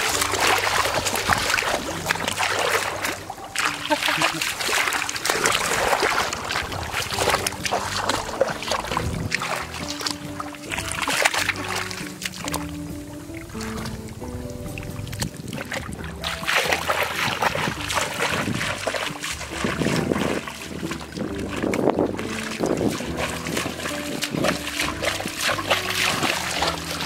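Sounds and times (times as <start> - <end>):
quiet background music: 0.0 - 27.0
water splashing and sloshing: 0.0 - 27.0.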